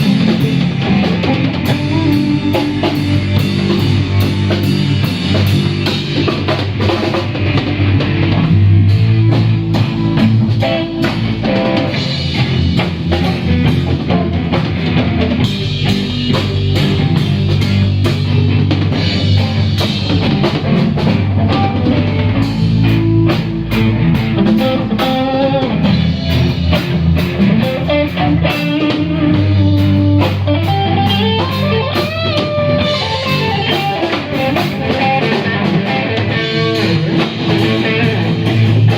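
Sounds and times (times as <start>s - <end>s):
guitar line with bending notes: 0.0s - 38.9s
rock guitar and drums jam: 0.0s - 38.9s.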